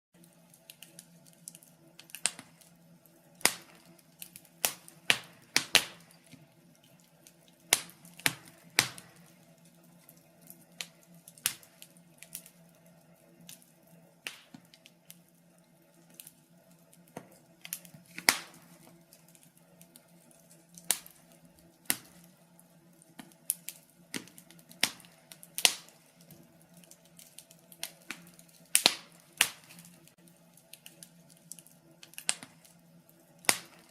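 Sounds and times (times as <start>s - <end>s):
wood fire crackling: 0.2s - 33.9s.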